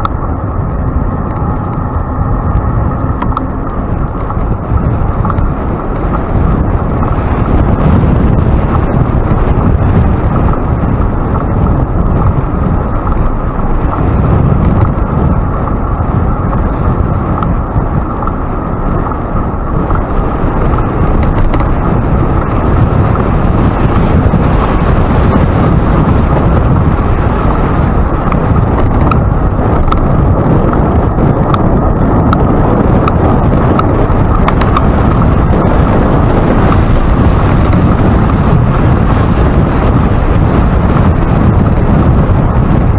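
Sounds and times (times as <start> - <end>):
wind rushing on microphone: 0.0 - 42.9.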